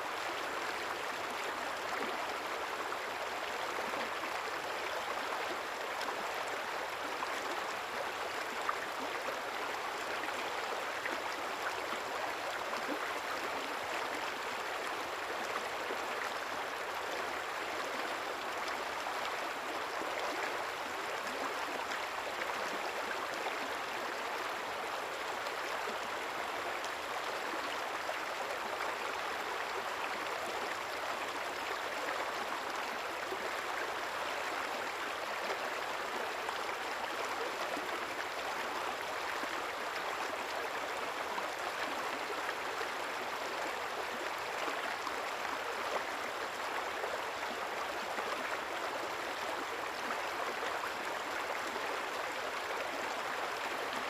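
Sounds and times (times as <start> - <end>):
stream flowing and babbling: 0.0 - 54.0.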